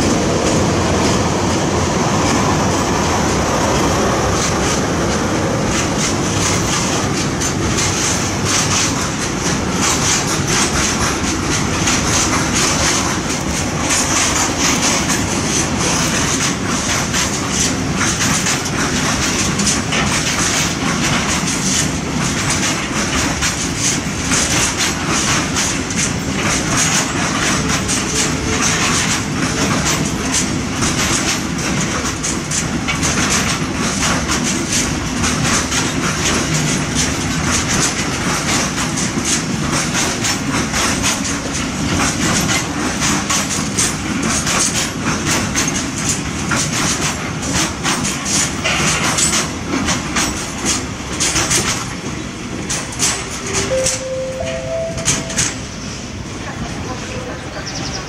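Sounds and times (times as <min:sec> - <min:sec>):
high hiss of wheels on rails: 0:00.0 - 0:53.5
freight train rumbling past: 0:00.0 - 0:58.0.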